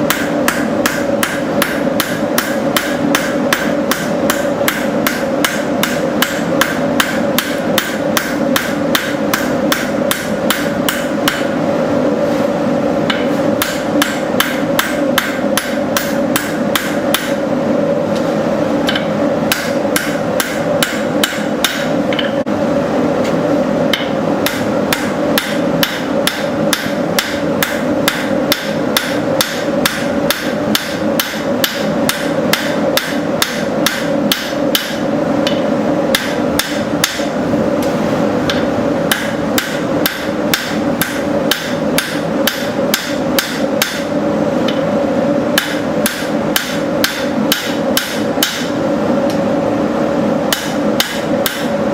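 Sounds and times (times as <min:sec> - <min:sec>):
hammer striking metal on anvil: 0:00.0 - 0:11.6, 0:13.1 - 0:17.4, 0:18.8 - 0:22.4, 0:23.9 - 0:37.4, 0:38.5 - 0:44.1, 0:45.5 - 0:48.7, 0:50.5 - 0:51.7
steady hum: 0:00.0 - 0:51.9.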